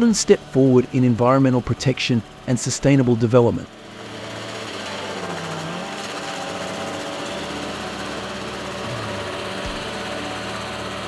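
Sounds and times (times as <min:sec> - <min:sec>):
wood chipper engine drone: 0:00.0 - 0:11.0.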